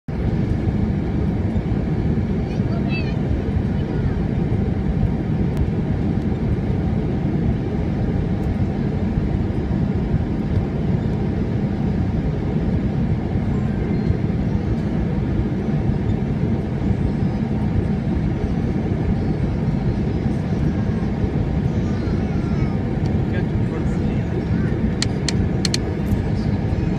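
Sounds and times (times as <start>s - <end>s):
airliner cabin engine noise: 0.1s - 26.9s.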